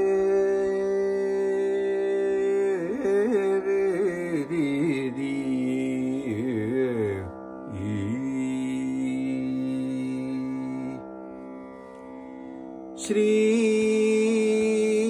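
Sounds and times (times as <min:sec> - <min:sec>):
man singing wordlessly: 0:00.0 - 0:11.0, 0:13.0 - 0:15.0.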